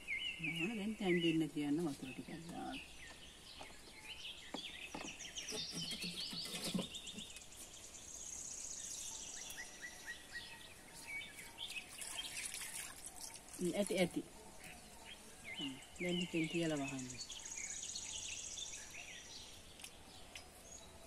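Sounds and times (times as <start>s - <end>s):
birds chirping and calling: 0.0s - 21.0s.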